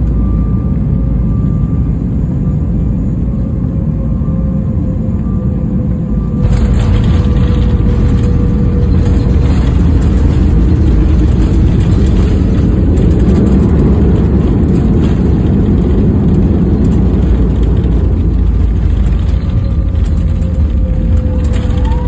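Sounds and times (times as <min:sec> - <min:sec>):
jet engines at high thrust: 0:00.0 - 0:22.0
low runway rumble: 0:00.0 - 0:22.0.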